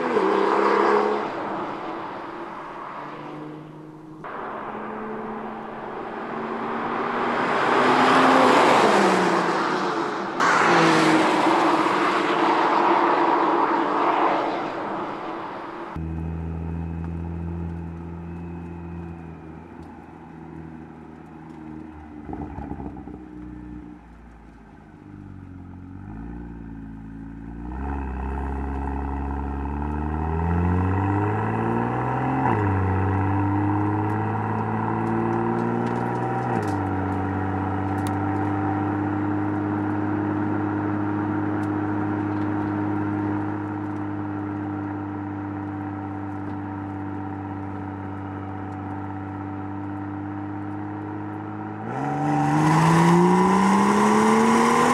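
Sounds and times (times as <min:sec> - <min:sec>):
car engine accelerating through gears: 0:00.0 - 0:54.9.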